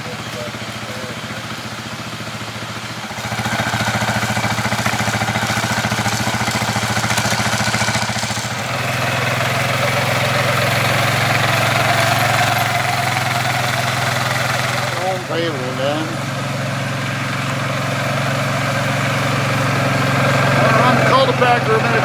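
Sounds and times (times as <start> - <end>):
machine engine running: 0.0 - 22.0.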